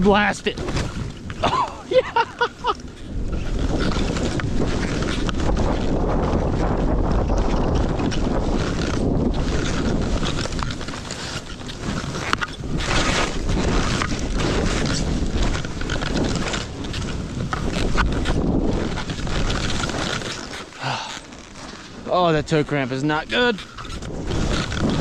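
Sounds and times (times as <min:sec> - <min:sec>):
skis slashing through powder snow: 0:00.0 - 0:25.0
wind buffeting microphone: 0:00.0 - 0:25.0.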